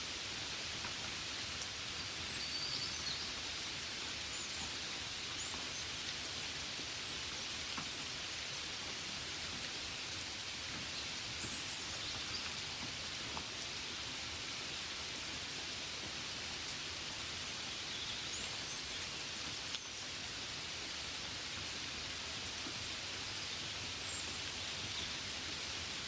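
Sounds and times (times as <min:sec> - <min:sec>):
gentle rain: 0:00.0 - 0:26.0.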